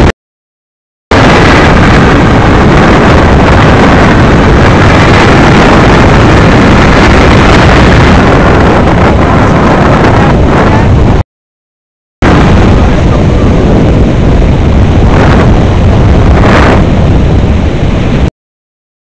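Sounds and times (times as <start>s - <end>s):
wind buffeting microphone: 1.1s - 11.2s, 12.2s - 18.3s.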